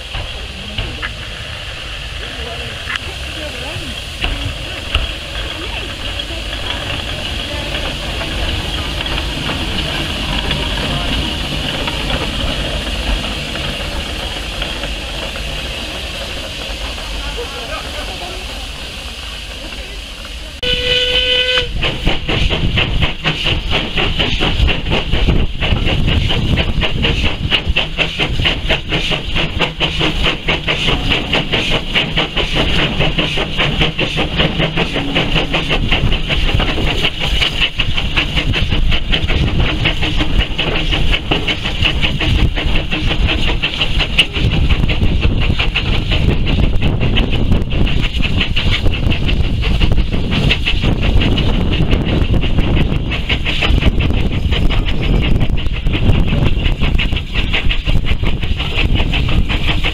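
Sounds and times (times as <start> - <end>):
steam hiss and rushing air: 0.0 - 59.9
train wheels rumbling on track: 0.0 - 59.9.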